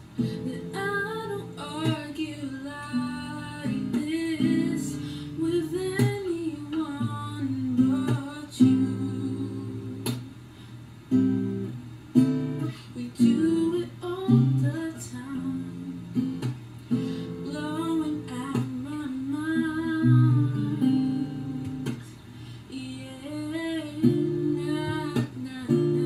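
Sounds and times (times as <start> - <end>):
acoustic guitar chords: 0.0 - 10.4, 11.0 - 26.0
woman singing: 0.2 - 10.4, 12.6 - 26.0.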